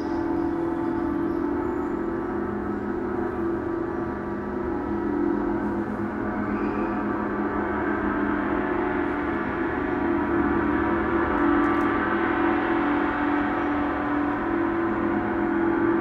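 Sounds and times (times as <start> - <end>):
gong ringing: 0.0 - 16.0.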